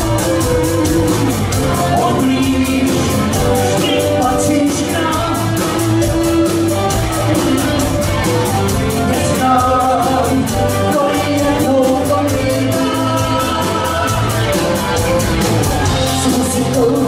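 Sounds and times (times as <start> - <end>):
bass guitar: 0.0 - 17.0
drum kit beat: 0.0 - 17.0
electric guitars: 0.0 - 17.0
keyboard: 0.0 - 17.0.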